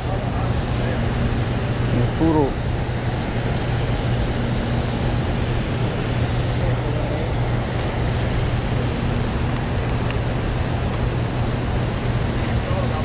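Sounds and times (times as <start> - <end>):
low steady hum: 0.0 - 13.0
river water rushing: 0.0 - 13.0.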